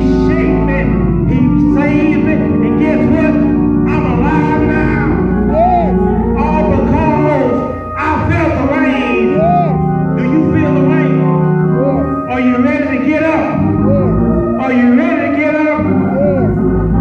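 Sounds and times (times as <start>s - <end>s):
organ chords with bass line: 0.0s - 17.0s.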